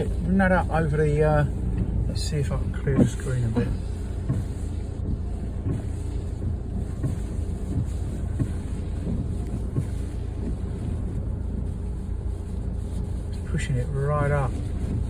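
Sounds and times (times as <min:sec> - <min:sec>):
storm wind buffeting a car: 0:00.0 - 0:15.0.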